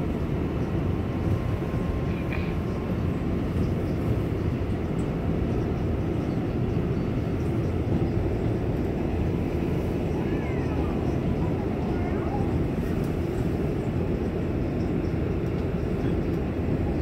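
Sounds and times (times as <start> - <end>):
subway train rumbling on track: 0.0 - 17.0.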